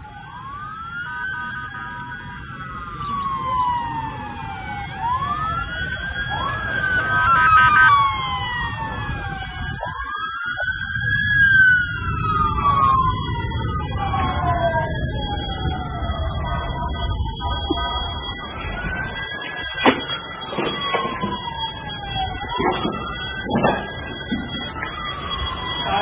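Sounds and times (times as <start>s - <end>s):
emergency sirens wailing: 0.0s - 26.0s.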